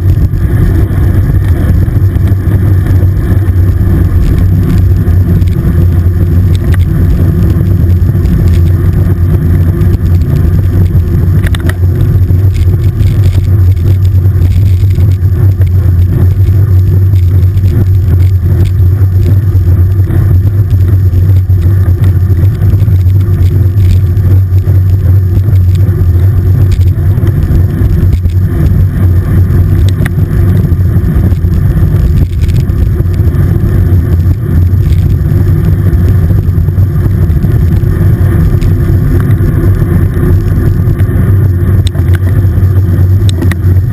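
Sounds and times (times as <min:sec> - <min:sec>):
bike rolling on rough asphalt: 0:00.0 - 0:43.9
wind buffeting microphone: 0:00.0 - 0:43.9.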